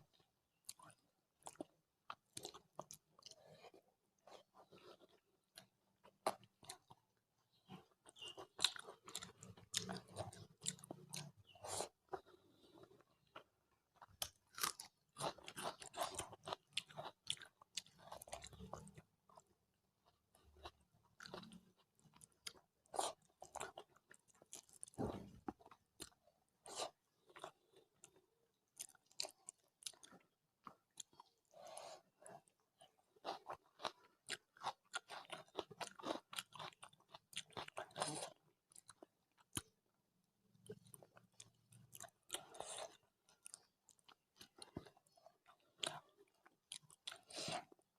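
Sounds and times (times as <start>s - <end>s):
close chewing with mouth clicks: 0.1s - 47.9s.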